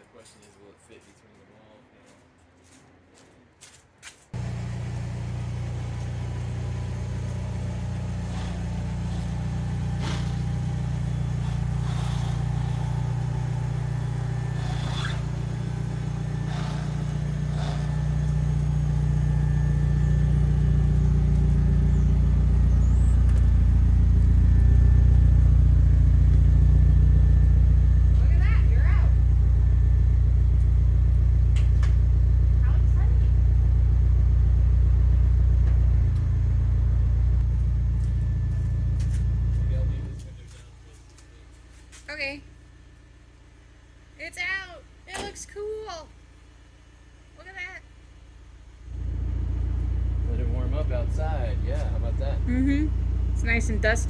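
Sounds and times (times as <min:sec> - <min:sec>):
car engine running: 0:04.3 - 0:54.0.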